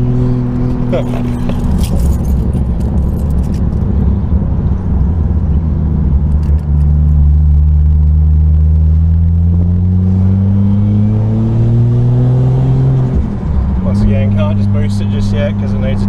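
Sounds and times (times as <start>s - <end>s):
car engine exhaust rumble: 0.0s - 16.0s.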